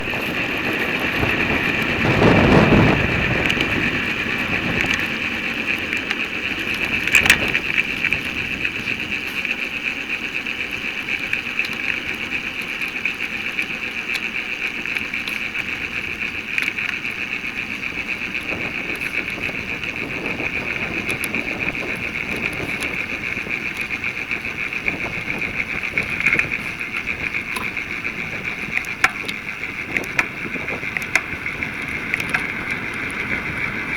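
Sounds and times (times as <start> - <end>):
wind rumbling on microphone: 0.0 - 33.9.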